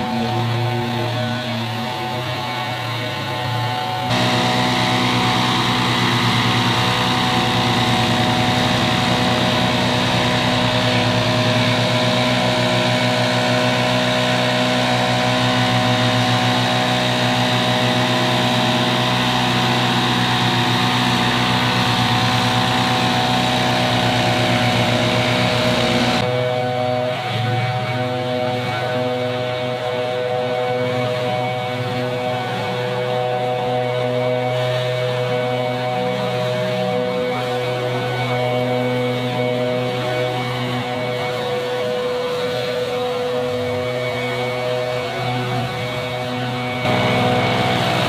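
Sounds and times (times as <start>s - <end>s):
small engine running at high speed: 0.0s - 48.0s.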